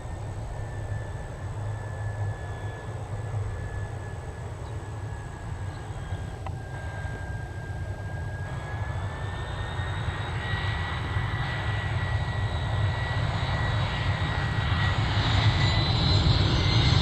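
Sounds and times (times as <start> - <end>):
faint high engine whine: 0.0 - 17.0
jet engines rumbling: 0.0 - 17.0.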